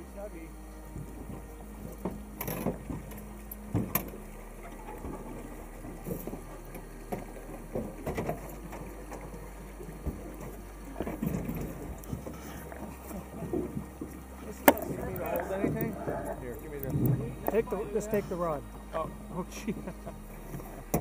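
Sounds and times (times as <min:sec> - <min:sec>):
river water rumble: 0:00.0 - 0:21.0
wind: 0:00.0 - 0:21.0.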